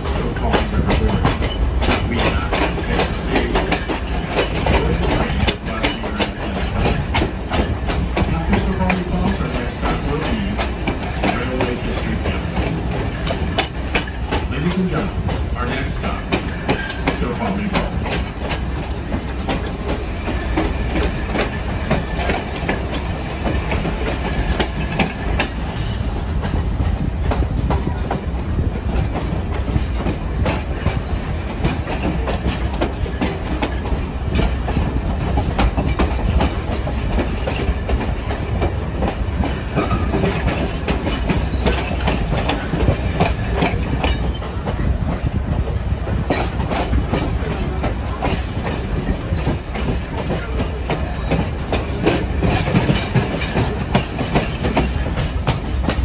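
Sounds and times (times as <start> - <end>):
train cars rumbling: 0.0 - 56.0
wheels clicking over rail joints: 0.0 - 56.0.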